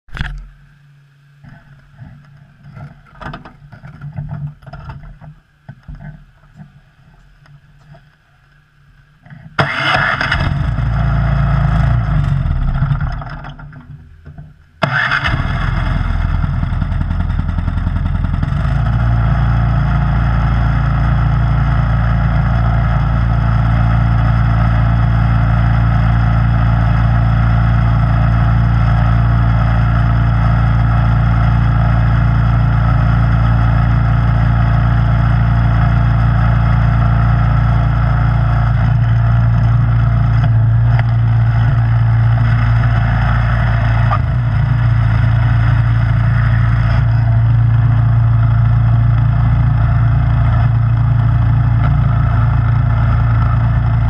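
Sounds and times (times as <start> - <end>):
snowblower engine running: 9.6 - 14.0, 14.8 - 54.0.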